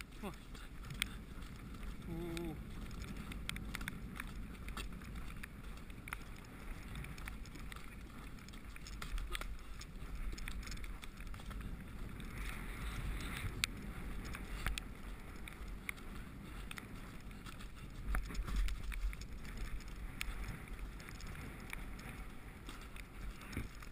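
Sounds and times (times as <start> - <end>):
horse stride and tack clicks: 0.0 - 23.9
wind on microphone: 0.0 - 23.9.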